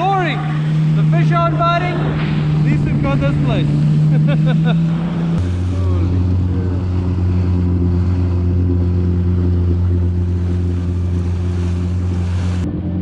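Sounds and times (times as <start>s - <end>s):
jet ski engine hum: 0.0s - 13.0s
water rushing off hull: 0.0s - 13.0s.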